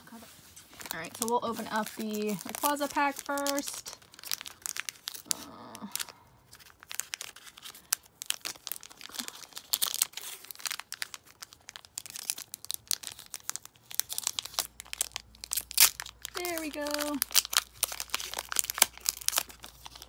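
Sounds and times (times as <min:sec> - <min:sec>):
foil wrapper tearing and crinkling: 0:00.6 - 0:20.0.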